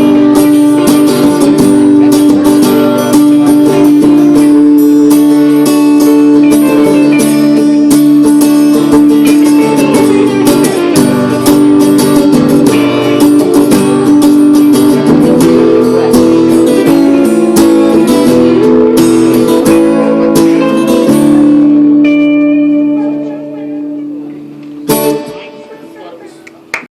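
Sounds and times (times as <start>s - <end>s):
plucked and strummed guitar music: 0.0s - 26.7s.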